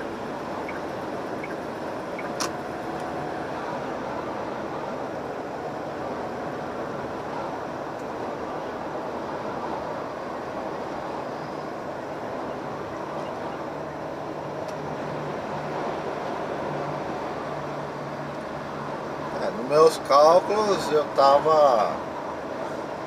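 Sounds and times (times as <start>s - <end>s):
truck engine drone: 0.0s - 19.5s
road noise: 0.0s - 23.0s.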